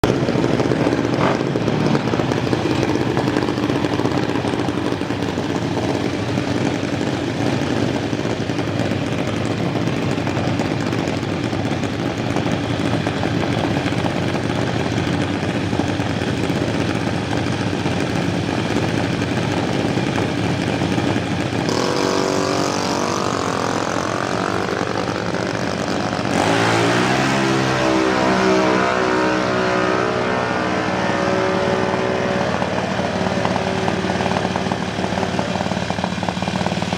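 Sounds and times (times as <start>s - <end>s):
dragster engine revving: 0.0s - 36.9s.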